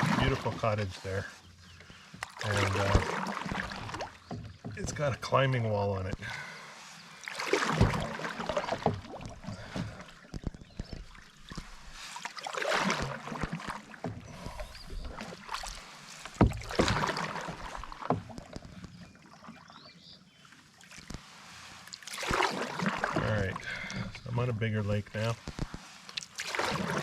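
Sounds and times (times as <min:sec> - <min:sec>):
paddle strokes swishing through water: 0:00.0 - 0:27.0.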